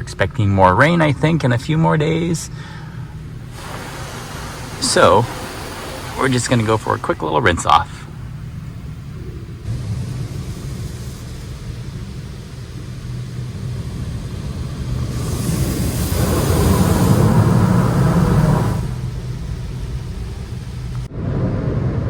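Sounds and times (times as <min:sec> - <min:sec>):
low rumble: 0:00.1 - 0:22.0
car wash spray hiss: 0:01.2 - 0:21.1.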